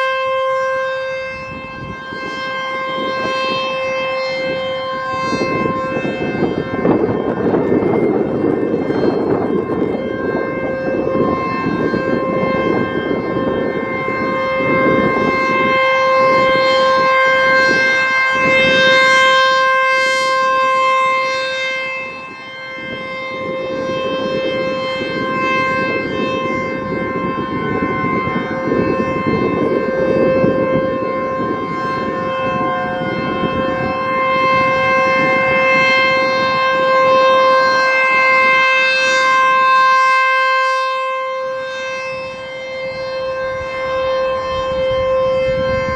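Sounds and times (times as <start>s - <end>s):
rotating warning siren steady tone: 0.0s - 45.9s.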